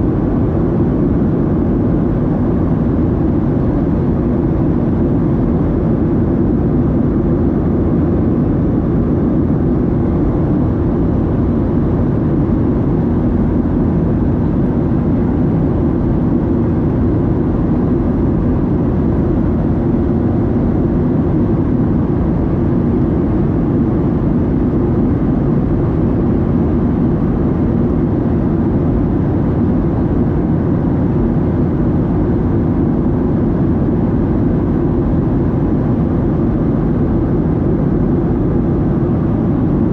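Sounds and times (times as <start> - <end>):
jet engines: 0.0 - 39.9.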